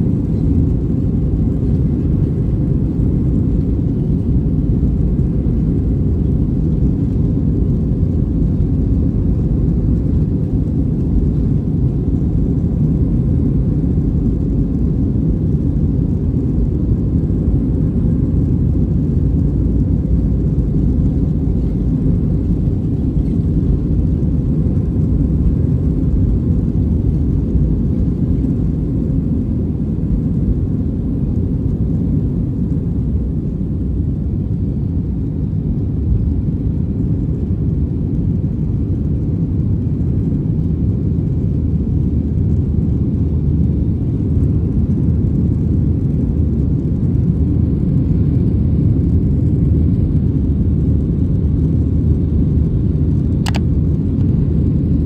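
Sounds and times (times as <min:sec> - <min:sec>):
jet engines rumbling at takeoff: 0:00.0 - 0:55.0.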